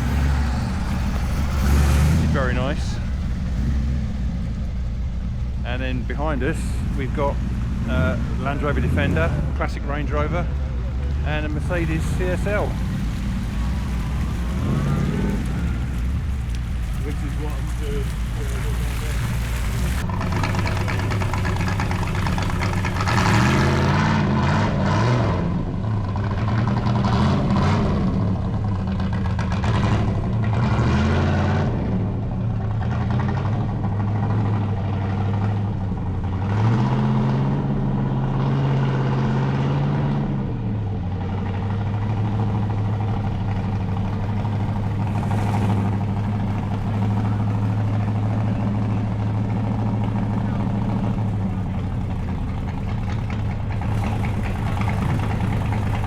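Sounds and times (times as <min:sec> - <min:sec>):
vehicle engine idling and revving: 0:00.0 - 0:56.0.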